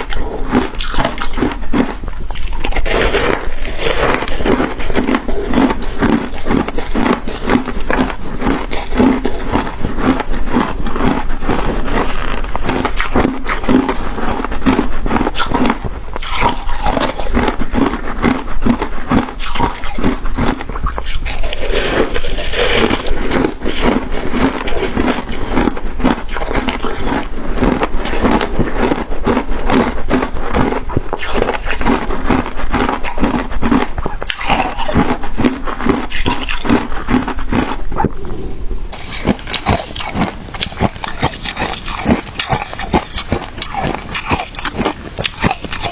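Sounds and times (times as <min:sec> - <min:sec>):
chewing crunchy shaved ice: 0:00.0 - 0:45.9.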